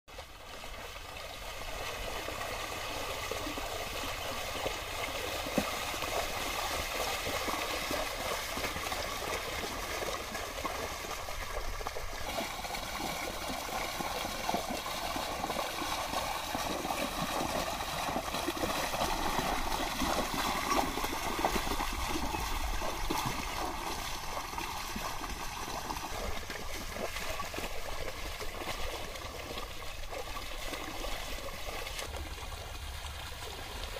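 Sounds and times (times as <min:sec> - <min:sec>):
water and mud sloshing: 0:00.1 - 0:33.9.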